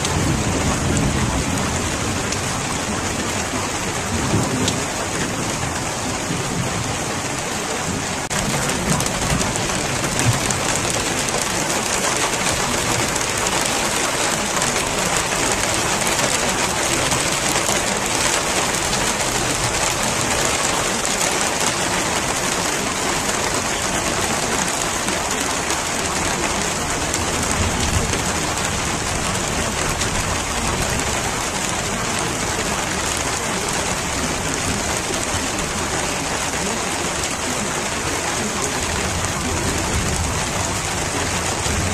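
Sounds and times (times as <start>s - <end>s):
thunder rumbling: 0.0s - 36.6s
rain falling: 0.0s - 41.9s.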